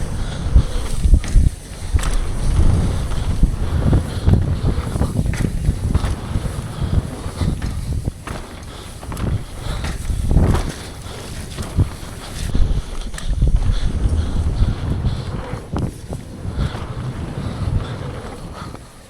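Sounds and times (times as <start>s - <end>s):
bike knocks and rattles: 0.0s - 19.0s
bike tyre rumble: 0.0s - 19.0s
wind rushing over microphone: 0.0s - 19.0s.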